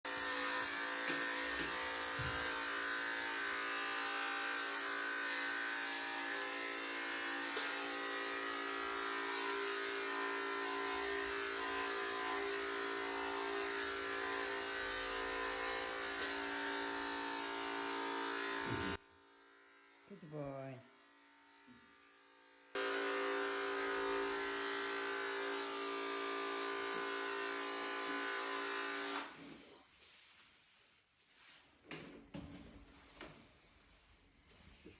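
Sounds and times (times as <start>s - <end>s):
electric hair clippers buzzing: 0.1s - 29.5s.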